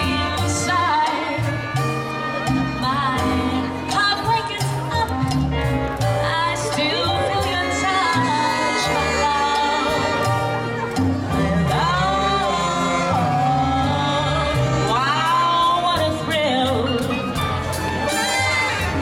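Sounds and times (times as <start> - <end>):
woman singing: 0.0 - 5.4, 6.0 - 17.7
latin jazz band playing: 0.0 - 19.0
walking bass notes: 0.0 - 19.0.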